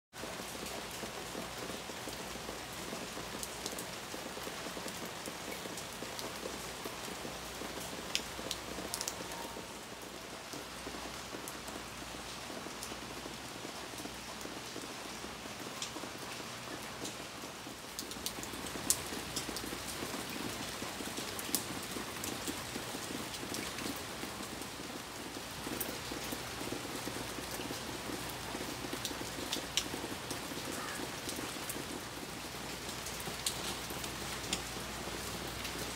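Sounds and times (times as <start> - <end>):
rain on wooden deck and foliage: 0.1 - 35.9.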